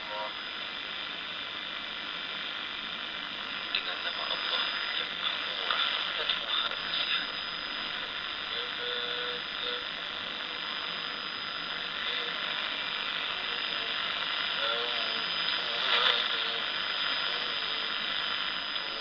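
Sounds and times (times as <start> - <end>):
radio crackles: 0.0 - 19.0
radio static hiss: 0.0 - 19.0
high radio whistle: 1.6 - 19.0.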